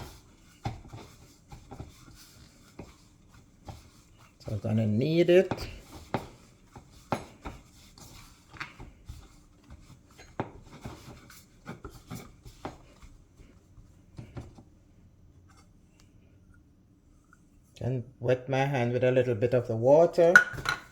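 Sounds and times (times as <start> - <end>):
hands kneading dough: 0.0 - 17.7.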